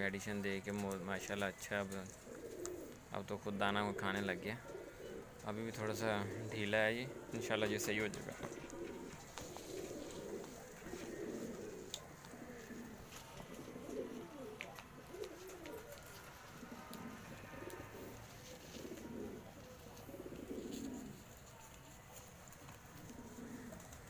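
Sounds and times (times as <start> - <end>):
pigeons cooing: 0.8 - 24.0.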